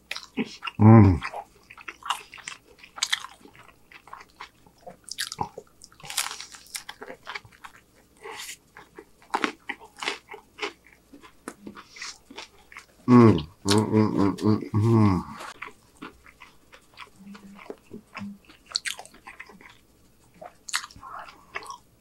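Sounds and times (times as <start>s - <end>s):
man chewing crunchy food: 0.0s - 22.0s.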